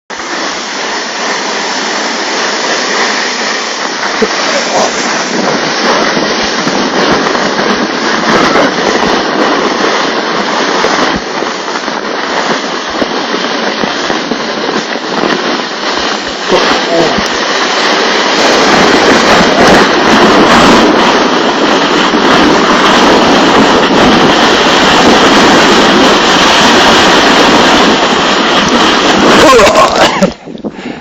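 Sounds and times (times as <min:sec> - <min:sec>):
sled sliding over snow: 0:00.1 - 0:31.0.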